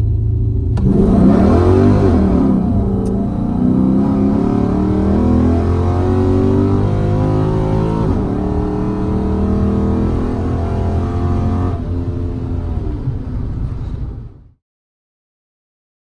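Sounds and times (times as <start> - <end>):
car engine idling: 0.7 - 14.5.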